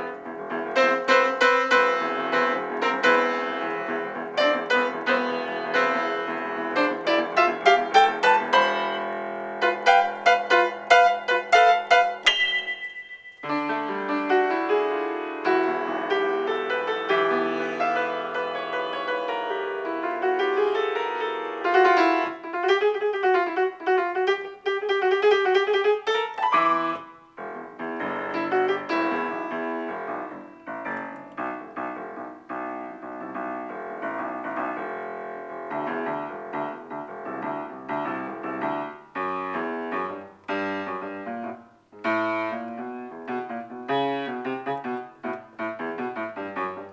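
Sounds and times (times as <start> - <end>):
piano keyboard improvisation: 0.0 - 46.9.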